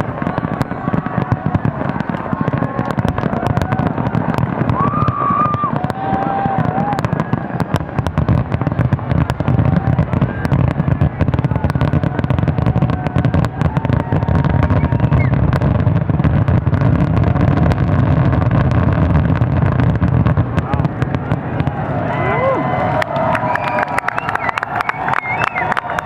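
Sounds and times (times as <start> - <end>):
deep continuous boom: 0.0 - 23.2
fireworks barrage: 0.0 - 26.0.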